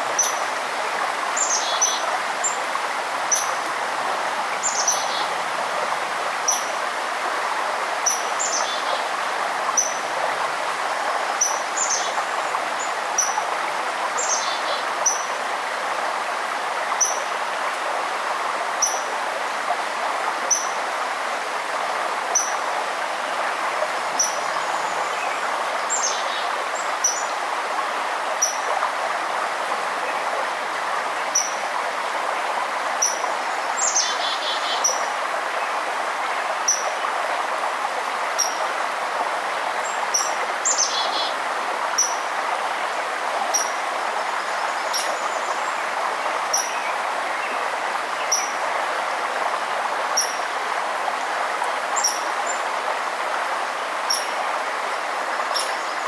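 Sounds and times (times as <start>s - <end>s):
forest stream rushing: 0.0s - 56.0s.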